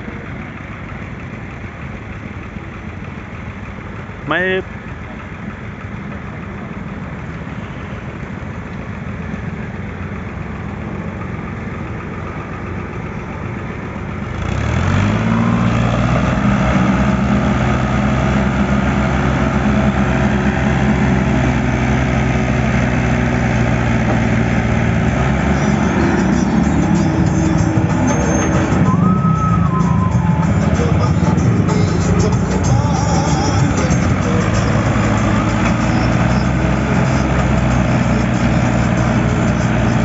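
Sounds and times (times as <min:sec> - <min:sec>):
diesel tractor engine running: 0:00.0 - 0:40.0.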